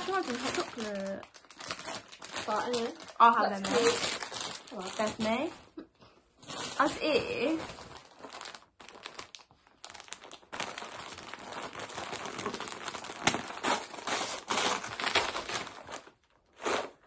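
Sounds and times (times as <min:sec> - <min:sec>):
wrapping paper crinkling and tearing: 0:00.0 - 0:05.8, 0:06.4 - 0:17.0.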